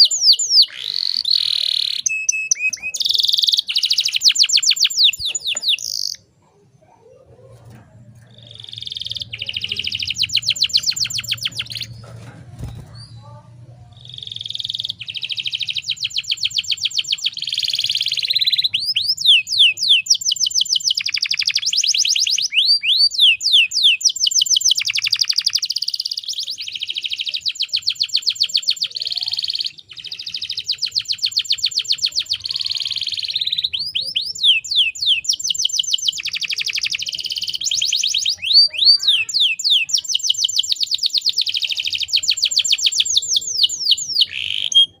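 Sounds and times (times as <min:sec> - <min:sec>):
canary singing rapid trills: 0:00.0 - 0:06.3, 0:07.1 - 0:45.0.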